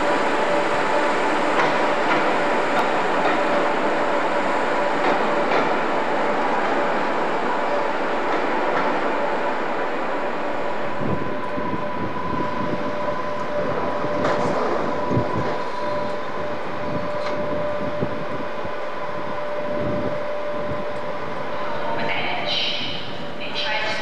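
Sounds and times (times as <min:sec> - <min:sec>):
train high-pitched whine: 0:00.0 - 0:24.0
train rumble: 0:00.0 - 0:24.0.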